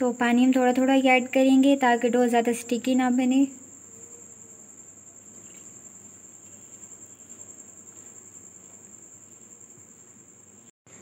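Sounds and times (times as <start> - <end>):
constant high-pitched tone: 0.0 - 11.0.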